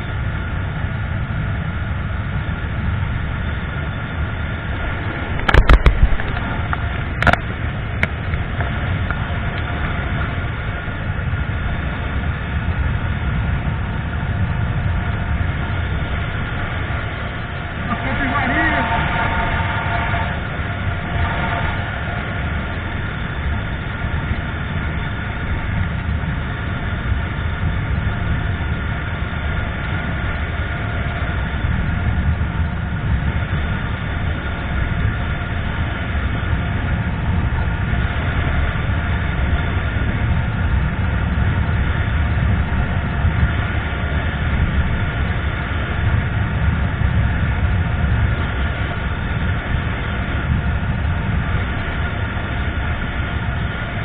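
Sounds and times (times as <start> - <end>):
motorcycle engine drone: 0.0 - 54.0
wind rush over microphone: 0.0 - 54.0.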